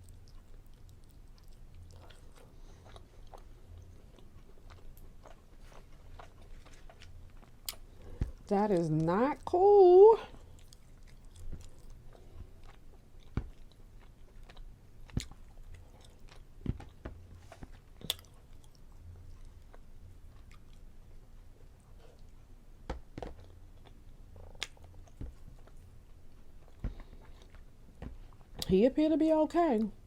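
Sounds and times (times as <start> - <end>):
person chewing food: 0.0 - 9.5, 10.3 - 28.7
faint low hum: 0.0 - 30.0.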